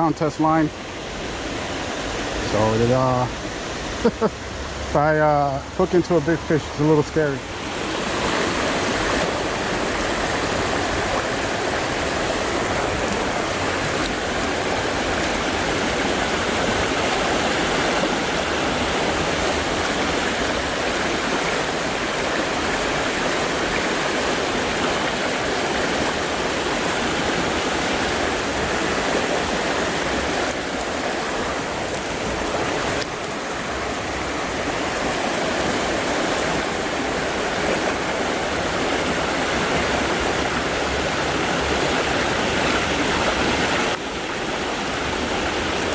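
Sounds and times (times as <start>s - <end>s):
creek water rushing over rocks: 0.0s - 45.9s.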